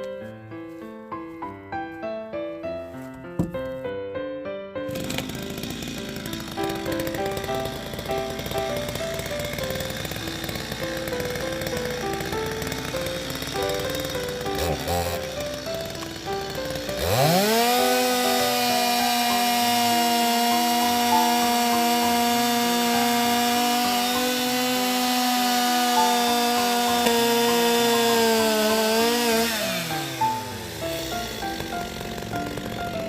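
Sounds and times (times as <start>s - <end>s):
chainsaw revving: 4.9s - 33.0s.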